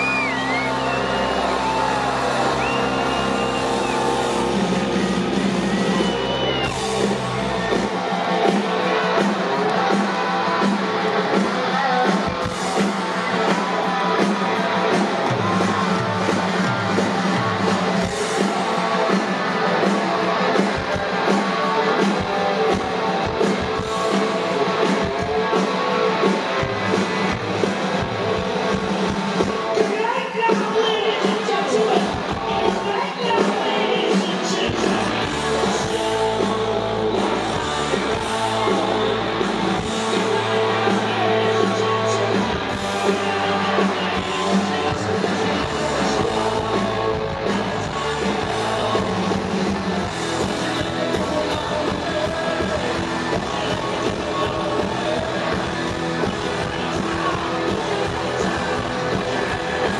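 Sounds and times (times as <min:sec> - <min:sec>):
electric guitars: 0:00.0 - 0:59.9.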